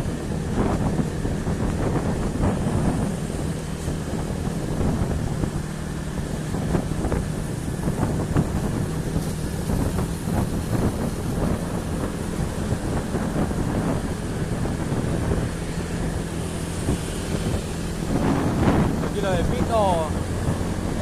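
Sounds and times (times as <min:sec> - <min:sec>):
vehicle engine running: 0:00.0 - 0:21.0
wind buffeting microphone: 0:00.0 - 0:21.0.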